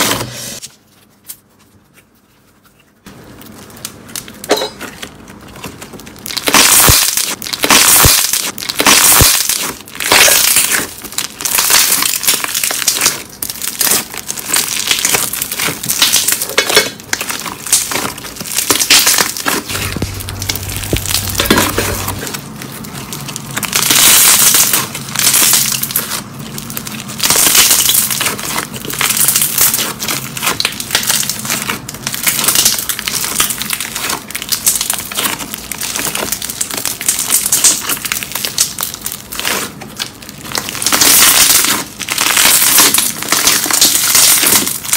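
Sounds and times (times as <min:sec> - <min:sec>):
slime crackling and popping: 0:03.1 - 0:44.9.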